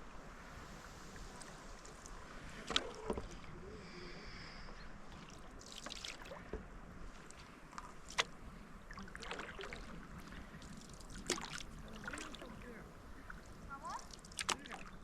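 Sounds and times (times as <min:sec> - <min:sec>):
paddle splashing in water: 0:00.0 - 0:15.0
steady low hiss: 0:00.0 - 0:15.0.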